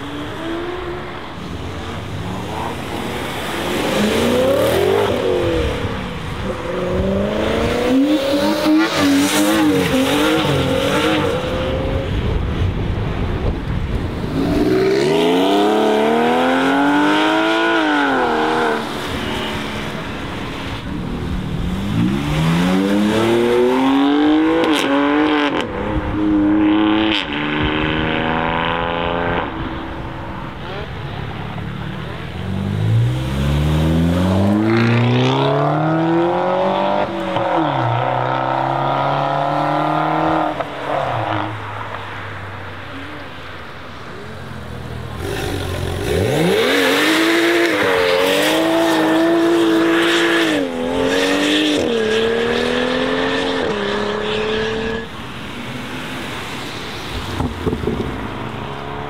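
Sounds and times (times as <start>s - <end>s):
cars accelerating with loud exhausts: 0.0s - 59.0s.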